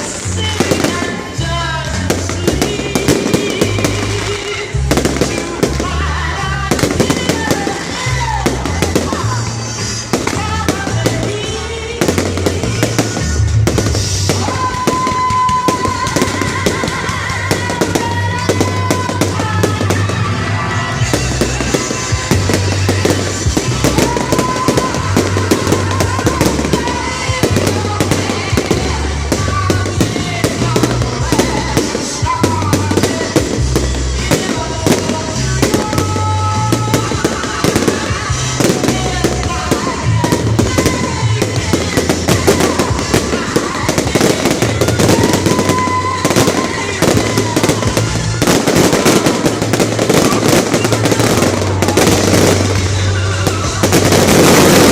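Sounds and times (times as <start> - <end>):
fireworks bangs and crackling: 0.0 - 54.9
loud music with bass line: 0.0 - 54.9.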